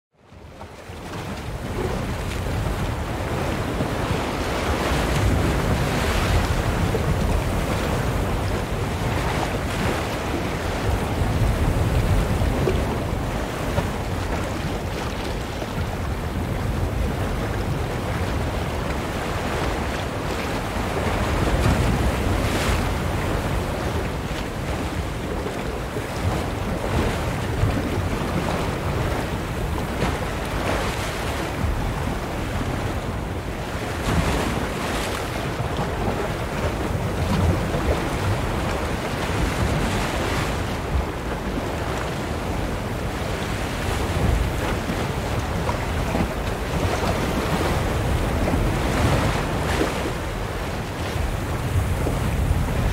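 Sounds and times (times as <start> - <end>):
ocean surf: 0.3 - 52.9.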